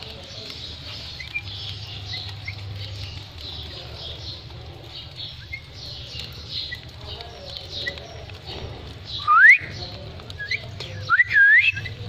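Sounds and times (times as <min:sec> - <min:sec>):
birds chirping softly: 0:00.0 - 0:12.0.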